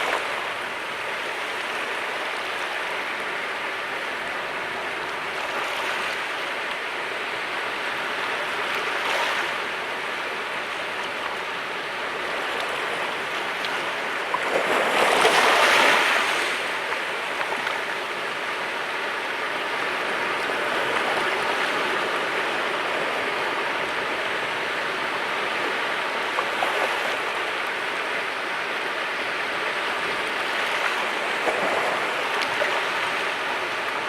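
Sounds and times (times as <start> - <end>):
surf washing on rocks: 0.0 - 34.0.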